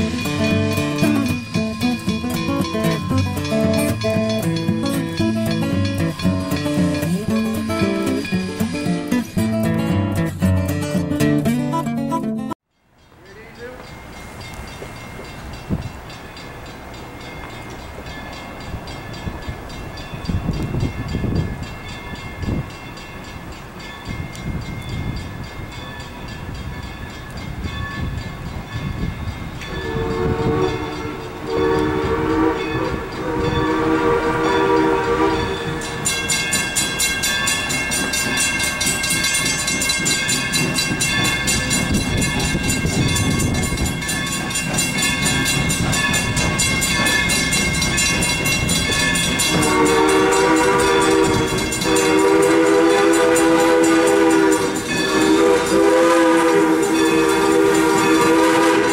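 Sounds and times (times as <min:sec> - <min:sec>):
steam locomotive chime whistle: 0:00.0 - 0:09.8, 0:13.3 - 0:58.9
crossing bell ringing rapidly: 0:00.0 - 0:11.1, 0:12.7 - 0:58.9.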